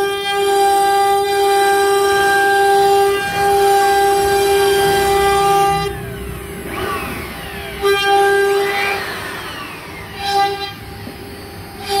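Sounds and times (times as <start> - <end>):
router spindle high-pitched whine: 0.0 - 12.0.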